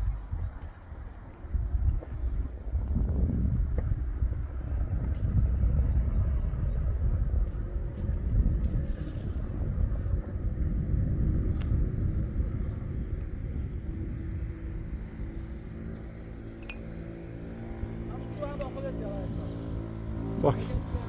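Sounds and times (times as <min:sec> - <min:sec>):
fluttering low rumble: 0:00.0 - 0:21.0.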